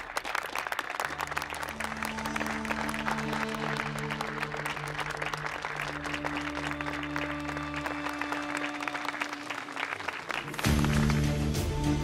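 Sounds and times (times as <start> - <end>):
crowd applauding: 0.0 - 12.0
music with long held notes: 0.9 - 12.0.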